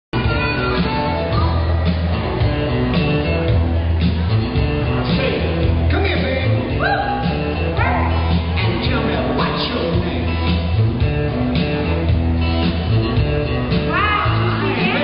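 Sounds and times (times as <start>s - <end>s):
dance music with beat and bass: 0.2s - 15.0s.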